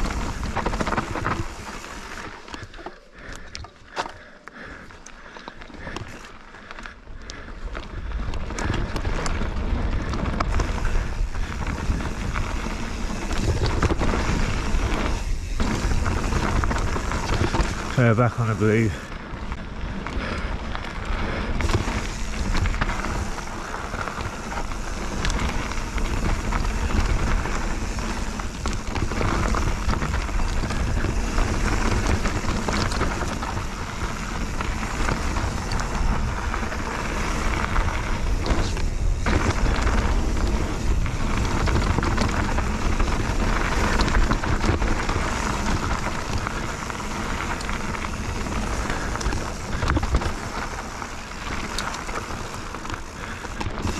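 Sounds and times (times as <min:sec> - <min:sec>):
wind rumble on microphone: 0:00.0 - 0:01.8, 0:07.7 - 0:53.9
bike rattles and clicks: 0:00.0 - 0:53.9
bike tyre noise on trail: 0:00.0 - 0:53.9.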